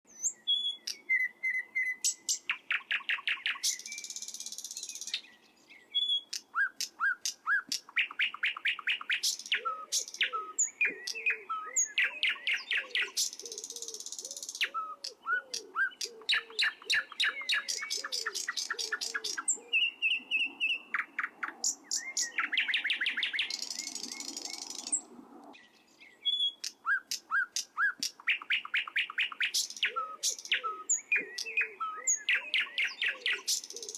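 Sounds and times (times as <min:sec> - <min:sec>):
canary singing trills: 0:00.1 - 0:25.1, 0:26.0 - 0:33.9.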